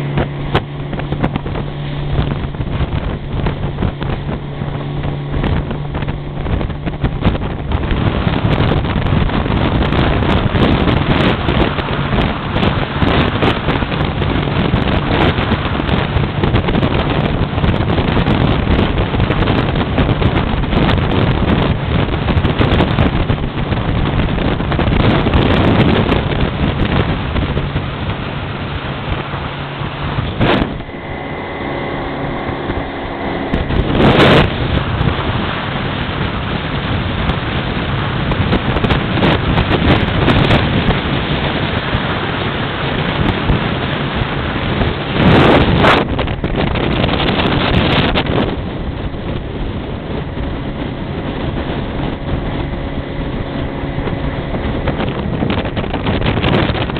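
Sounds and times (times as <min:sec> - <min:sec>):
boat engine hum: 0:00.0 - 0:56.9
water rushing along hull: 0:00.0 - 0:56.9
wind buffeting microphone: 0:00.0 - 0:56.9.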